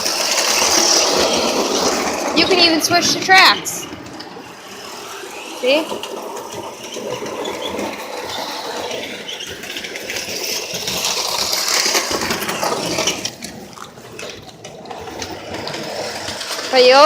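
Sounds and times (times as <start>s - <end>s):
model train motor whirring: 0.0s - 17.0s
train wheels clattering over rails: 0.0s - 17.0s.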